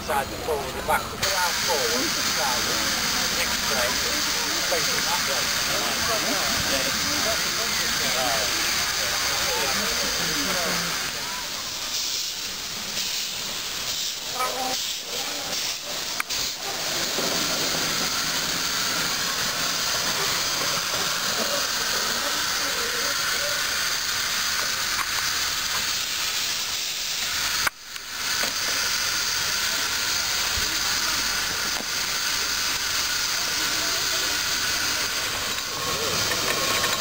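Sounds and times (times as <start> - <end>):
steam hissing from locomotive: 0.0 - 37.0.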